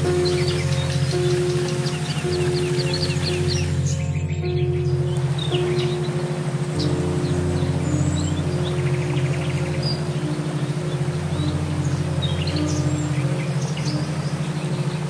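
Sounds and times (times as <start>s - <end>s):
birds chirping: 0.0s - 15.0s
rapid bird trill: 0.0s - 15.0s
soft relaxation music: 0.0s - 15.0s.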